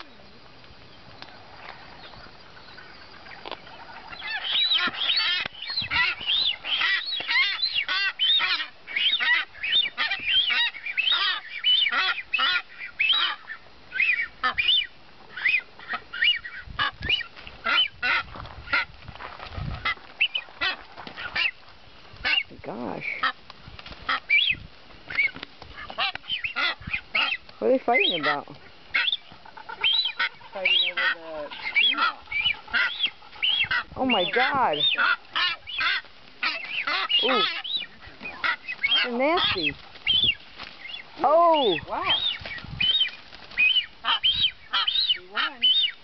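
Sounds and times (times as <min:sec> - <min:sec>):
seabirds calling in rapid runs: 0:00.0 - 0:46.0.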